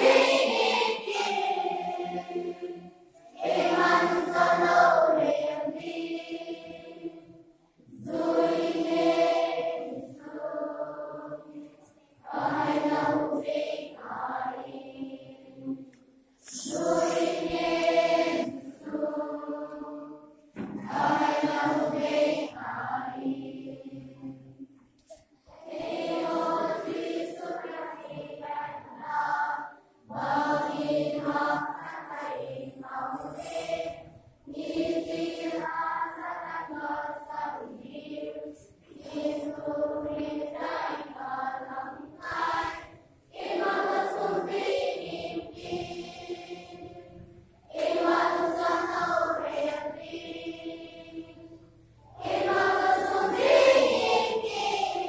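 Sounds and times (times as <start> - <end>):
children singing together: 0.0 - 24.7, 25.5 - 55.0.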